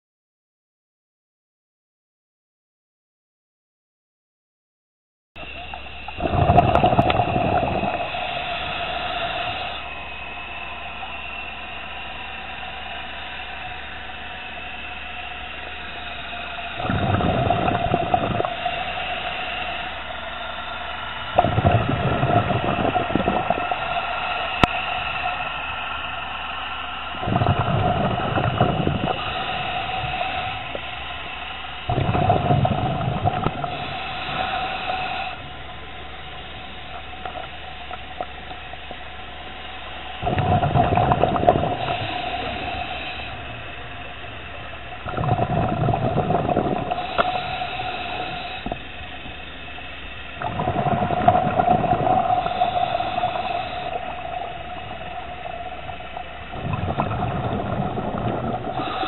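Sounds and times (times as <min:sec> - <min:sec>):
bubbling exhalations underwater: 0:05.4 - 0:13.7, 0:15.7 - 0:26.2, 0:27.0 - 0:38.8, 0:40.0 - 0:59.0
regulator hiss: 0:05.4 - 0:59.0.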